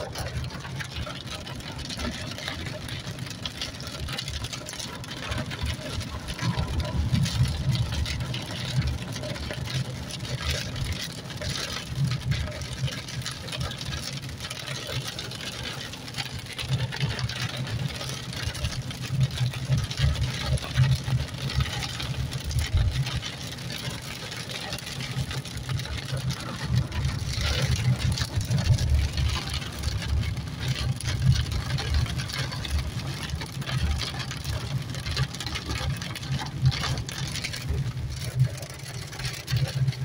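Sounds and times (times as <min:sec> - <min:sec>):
car tyres rumbling on wet road: 0:00.0 - 0:40.0
rain hitting windshield and roof: 0:00.0 - 0:40.0.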